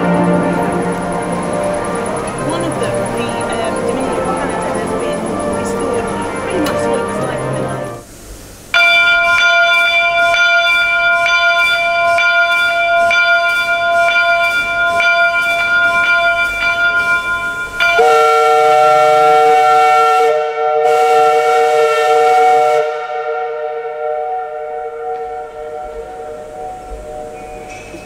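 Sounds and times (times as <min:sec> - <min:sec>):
locomotive bell ringing: 0:00.0 - 0:08.0, 0:08.8 - 0:19.6, 0:23.1 - 0:28.0
locomotive chime whistle: 0:00.0 - 0:08.0, 0:08.8 - 0:28.0.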